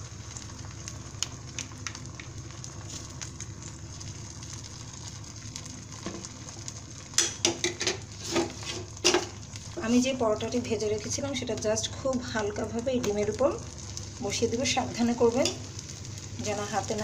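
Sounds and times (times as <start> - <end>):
egg sizzling in a pan: 0.0 - 17.0
low steady hum: 0.0 - 17.0.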